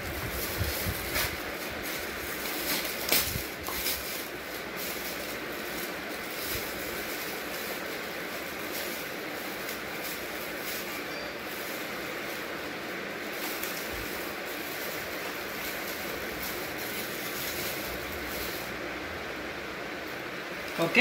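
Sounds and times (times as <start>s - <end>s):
plastic bag crinkling: 0.0s - 19.0s
steady background hiss: 0.0s - 21.0s.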